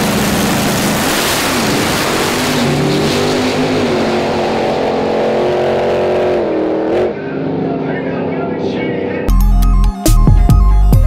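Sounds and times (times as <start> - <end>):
race car engines revving: 0.0 - 9.3
race cars accelerating: 0.0 - 9.3.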